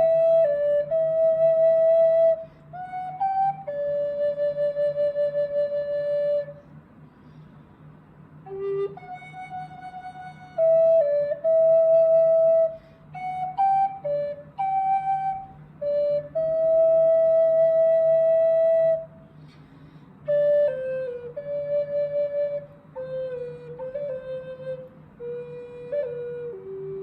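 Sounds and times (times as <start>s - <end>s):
flute solo melody: 0.0s - 6.7s, 8.4s - 19.5s, 20.2s - 27.0s.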